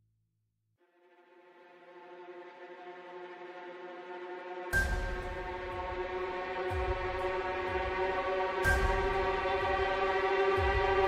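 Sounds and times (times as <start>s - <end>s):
ambient drone music: 0.9s - 11.0s.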